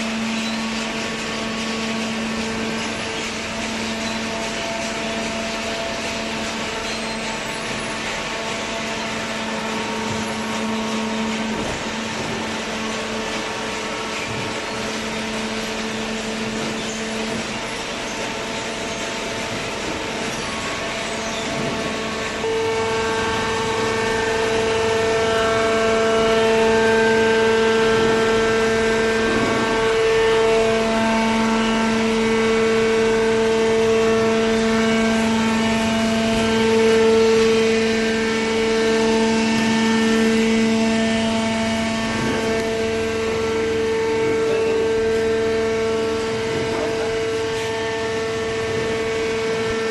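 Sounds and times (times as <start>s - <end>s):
baler machine hum and whine: 0.0s - 49.9s.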